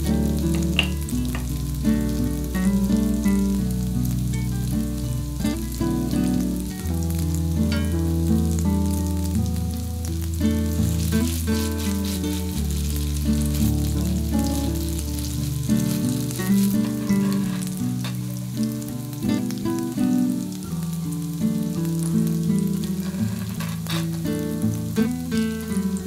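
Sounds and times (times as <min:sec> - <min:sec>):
patties sizzling in a frying pan: 0:00.0 - 0:26.0.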